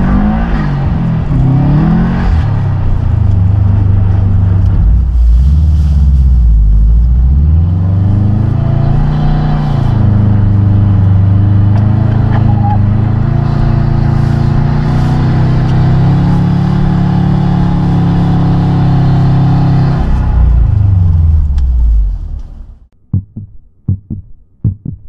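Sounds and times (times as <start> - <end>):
car engine from inside cabin: 0.0 - 22.8.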